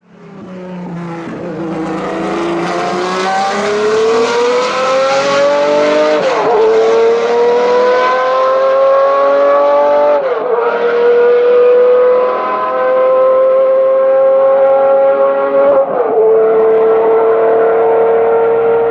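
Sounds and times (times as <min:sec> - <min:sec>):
race car engine accelerating: 0:00.2 - 0:18.9.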